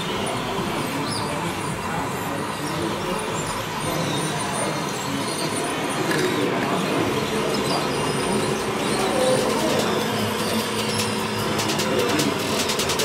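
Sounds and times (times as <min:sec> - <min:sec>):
model trucks driving: 0:00.0 - 0:13.0
steady background din: 0:00.0 - 0:13.0.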